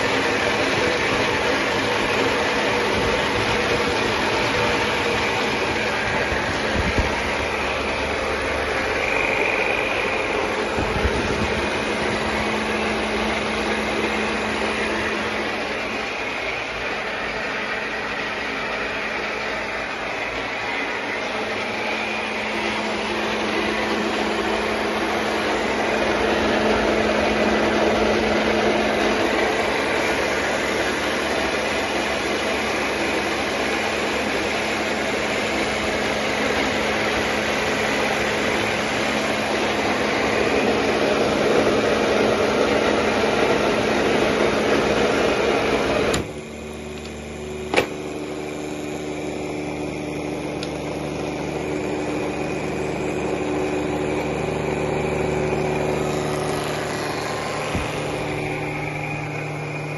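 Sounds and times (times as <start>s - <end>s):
pump motor humming: 0.0s - 59.9s.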